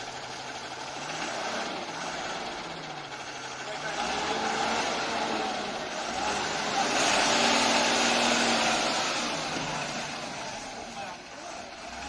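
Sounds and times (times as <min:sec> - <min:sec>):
truck engine running hard: 0:00.0 - 0:12.0.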